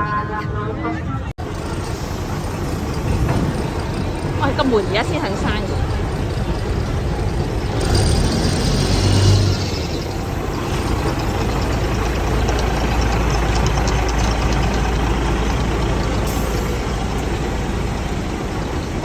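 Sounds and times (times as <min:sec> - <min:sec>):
vehicle engine humming: 0:01.2 - 0:19.0.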